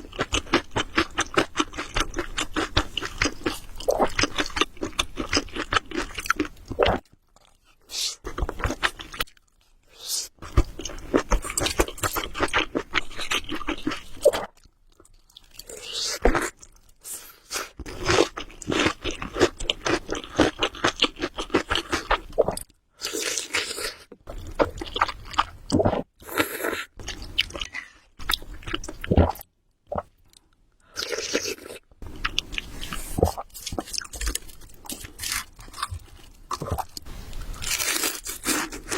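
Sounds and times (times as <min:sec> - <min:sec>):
person chewing food: 0:00.0 - 0:09.6, 0:10.4 - 0:38.9.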